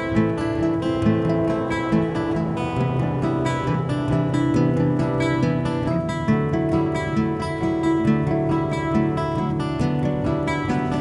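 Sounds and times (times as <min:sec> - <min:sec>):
acoustic guitar instrumental: 0:00.0 - 0:11.0.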